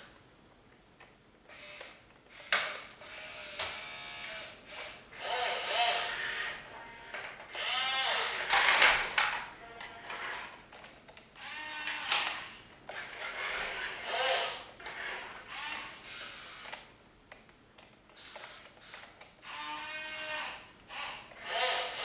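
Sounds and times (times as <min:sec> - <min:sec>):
toy electric motors whirring: 0:01.5 - 0:10.6, 0:11.4 - 0:17.0, 0:18.1 - 0:22.0.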